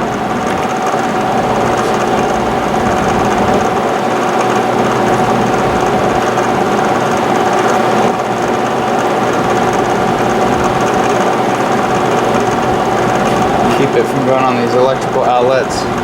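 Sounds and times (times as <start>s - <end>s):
drill press motor hum: 0.0s - 16.0s.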